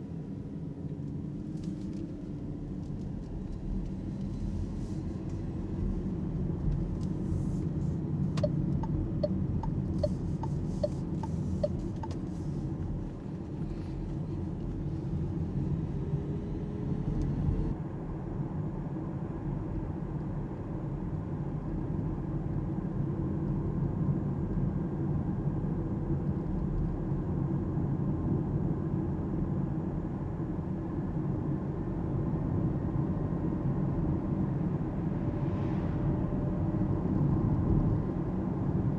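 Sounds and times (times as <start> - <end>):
road and tyre rumble in car: 0.0 - 38.9.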